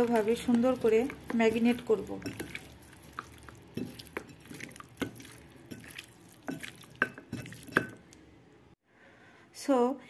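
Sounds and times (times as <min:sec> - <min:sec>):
hand kneading wet raw chicken: 0:00.0 - 0:08.1.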